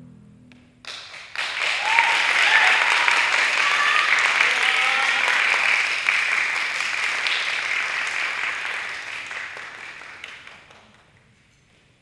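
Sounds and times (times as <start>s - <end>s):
audience applause: 0.8s - 11.2s.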